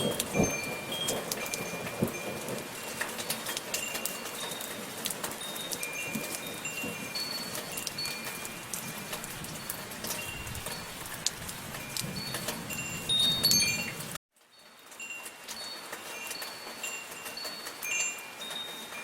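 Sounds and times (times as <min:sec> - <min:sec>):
metal wind chimes: 0:00.0 - 0:19.0
soft rain falling: 0:00.0 - 0:19.0.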